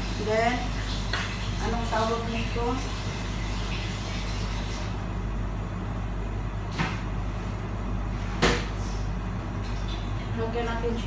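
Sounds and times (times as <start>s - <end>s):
kitchen appliances humming: 0.0s - 11.0s.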